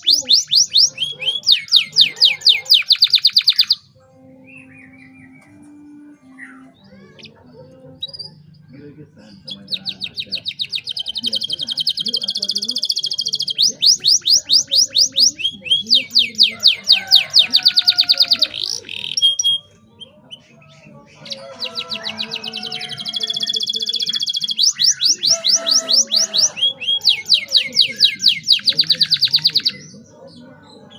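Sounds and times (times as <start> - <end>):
canary singing trills: 0.0 - 30.9.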